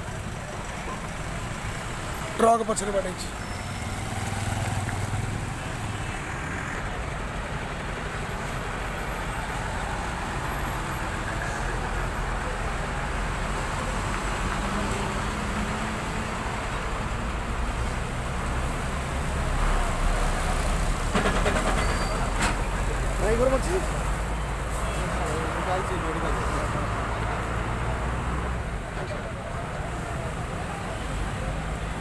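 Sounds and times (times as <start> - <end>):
road traffic hum: 0.0 - 32.0.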